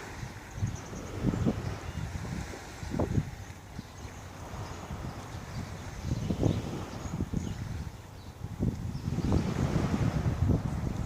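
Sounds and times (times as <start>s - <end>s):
wind gusting against microphone: 0.0s - 11.0s.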